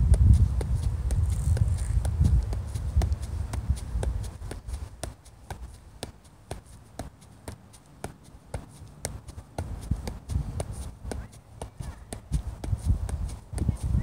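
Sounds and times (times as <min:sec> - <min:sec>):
ball taps off foot: 0:00.0 - 0:14.0.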